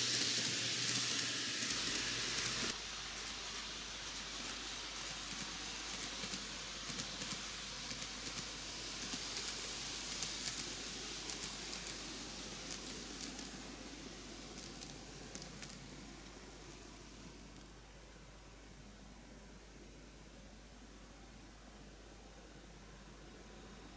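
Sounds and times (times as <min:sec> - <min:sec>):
model train rolling on track: 0:00.0 - 0:23.9.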